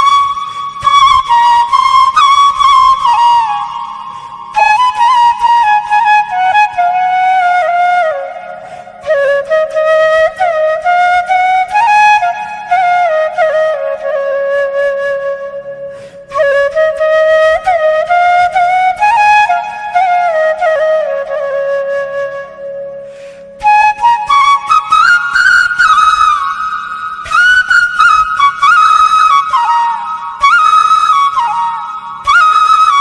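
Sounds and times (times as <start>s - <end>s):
flute melody with ornamented notes: 0.0s - 33.0s.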